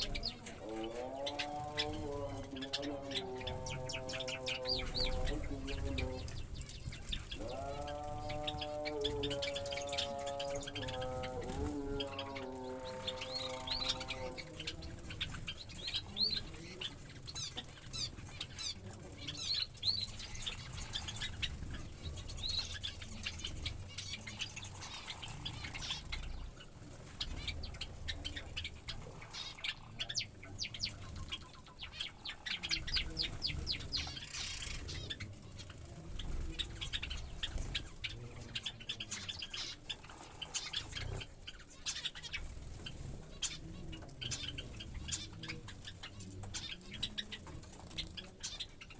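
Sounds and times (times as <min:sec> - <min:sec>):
birds chirping: 0:00.0 - 0:48.9
wings fluttering: 0:00.0 - 0:48.9.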